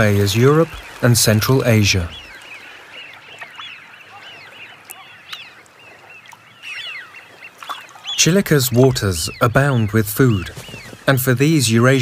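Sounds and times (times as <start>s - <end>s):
ducks whistling calls: 0.0s - 12.0s.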